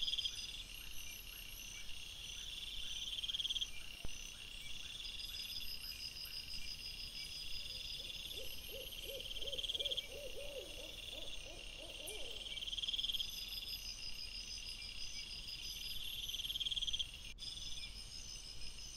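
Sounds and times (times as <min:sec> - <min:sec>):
crickets chirping: 0:00.0 - 0:18.9.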